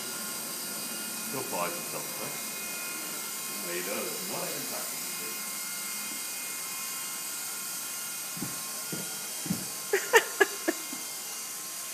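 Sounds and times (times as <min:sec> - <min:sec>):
rc helicopter motor whine: 0:00.0 - 0:11.9.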